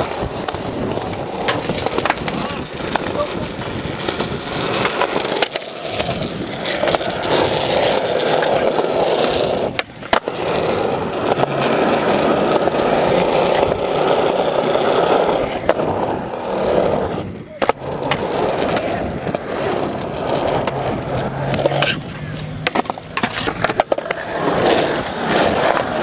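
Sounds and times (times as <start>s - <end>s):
skateboard clacks: 0.0s - 26.0s
skateboard wheels rolling on concrete: 0.0s - 26.0s.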